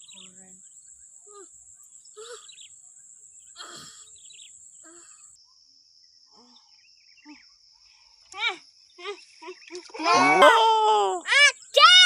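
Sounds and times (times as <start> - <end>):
high-pitched insect chorus: 0.0 - 10.4.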